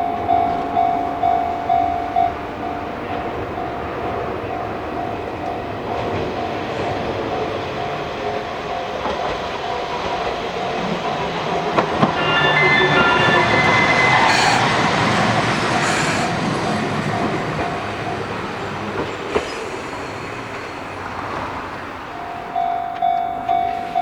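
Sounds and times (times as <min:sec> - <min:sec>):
train wheels clattering over rails: 0:02.9 - 0:24.0.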